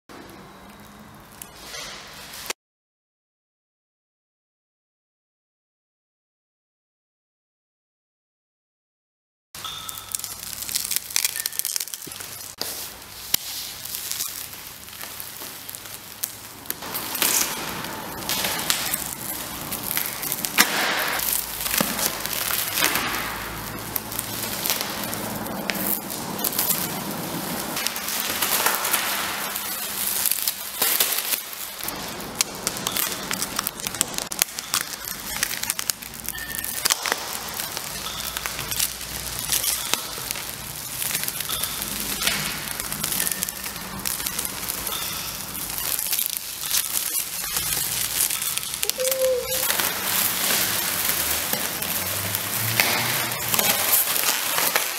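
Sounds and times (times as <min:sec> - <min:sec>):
dense crackling and rustling: 0:00.1 - 0:02.6, 0:09.6 - 0:54.9.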